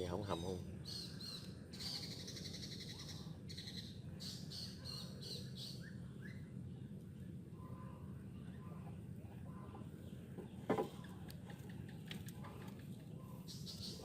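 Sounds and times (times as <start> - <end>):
birds chirping and trilling: 0.0 - 14.0.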